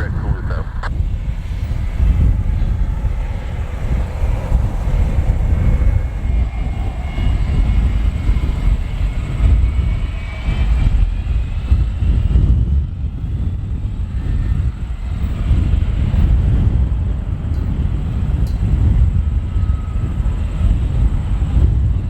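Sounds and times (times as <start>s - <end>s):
airplane engines whining: 0.0s - 22.0s
wind rumble on microphone: 0.0s - 22.0s.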